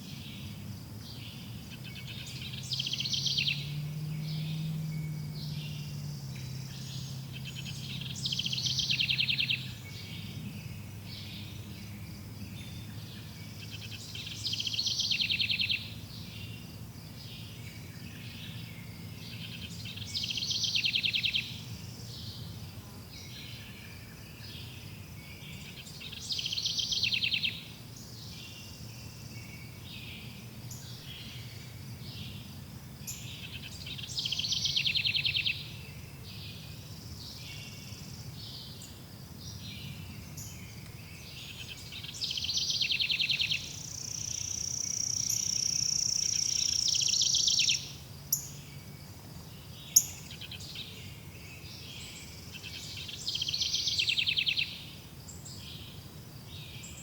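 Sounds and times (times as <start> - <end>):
bird singing fast trill: 0.0 - 22.6, 23.2 - 57.0.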